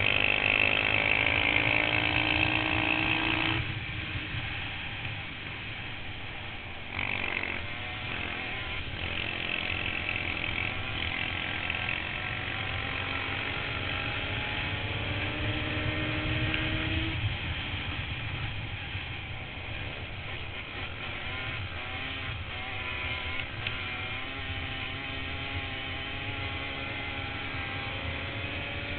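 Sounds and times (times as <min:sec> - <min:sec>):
quad engine running hard: 0:00.0 - 0:28.9.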